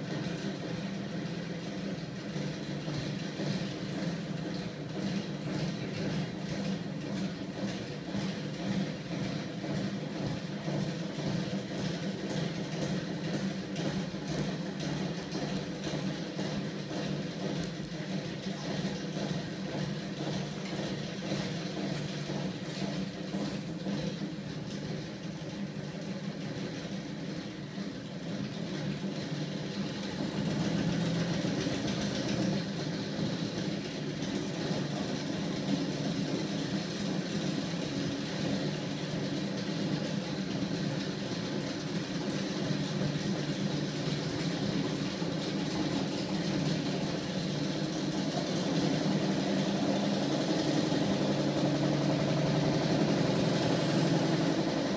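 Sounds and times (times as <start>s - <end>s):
flywheel machine humming: 0.0s - 54.9s.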